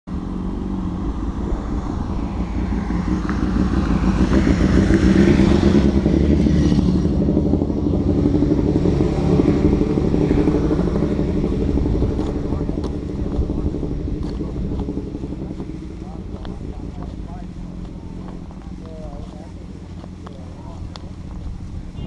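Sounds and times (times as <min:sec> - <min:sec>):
motorcycle engines passing: 0:00.1 - 0:22.0.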